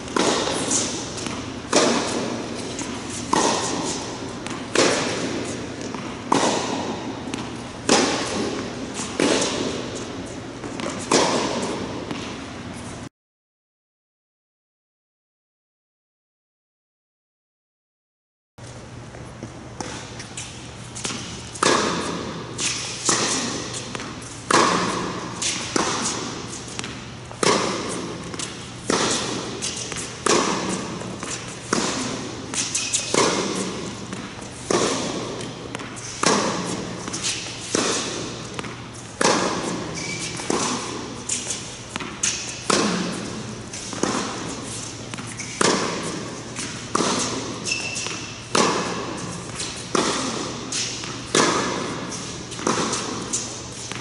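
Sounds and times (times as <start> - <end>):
tennis racket strikes: 0.0 - 12.5, 19.8 - 54.0
tennis ball bounces: 0.0 - 12.6, 19.1 - 54.0.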